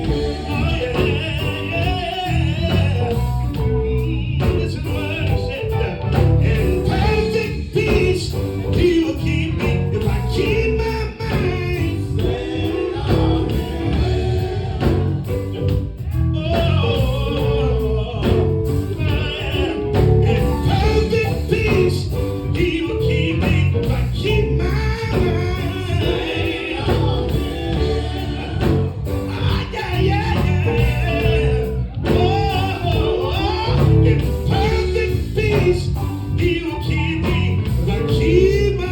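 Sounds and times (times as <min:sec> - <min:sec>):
gospel singing with band: 0:00.0 - 0:38.9.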